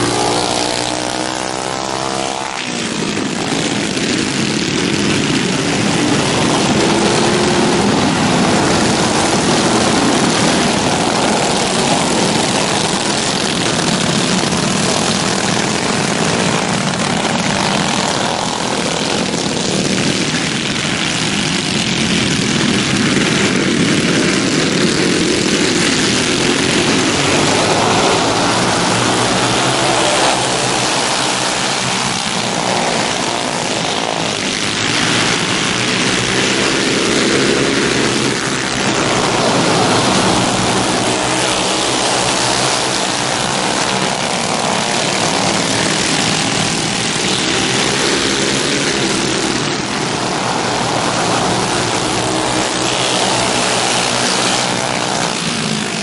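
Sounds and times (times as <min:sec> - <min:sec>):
racing kart engines droning: 0:00.0 - 0:56.0.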